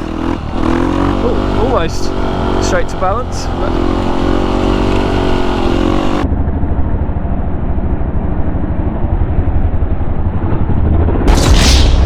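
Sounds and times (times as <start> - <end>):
muffled dirt bike engine: 0.0 - 11.7.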